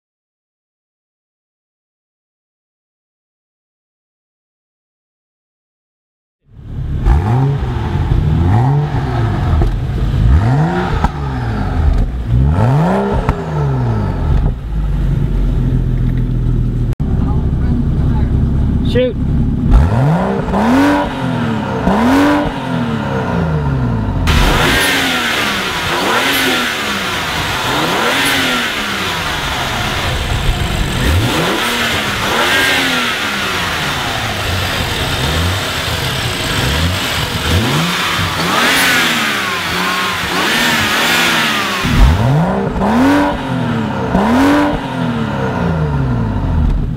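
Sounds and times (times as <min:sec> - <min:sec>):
car engine revving: 0:06.5 - 0:46.9.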